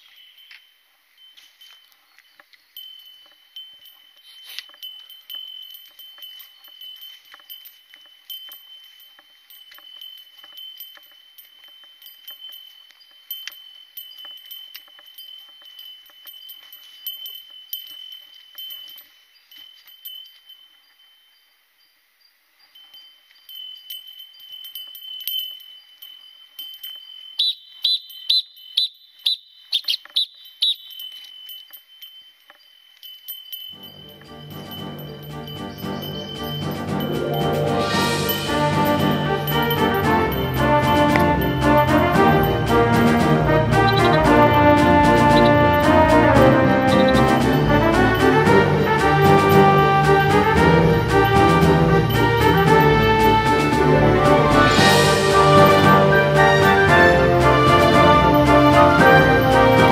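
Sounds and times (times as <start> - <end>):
bell jingling: 0.0 - 59.9.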